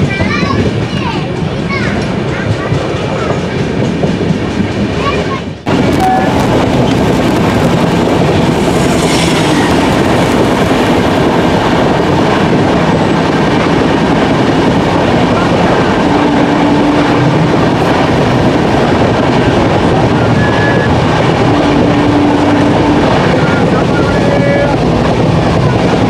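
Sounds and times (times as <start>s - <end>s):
passing train hissing rush: 0.0s - 26.0s
train wheels clattering on rails: 0.0s - 26.0s
wind rushing past: 3.4s - 26.0s.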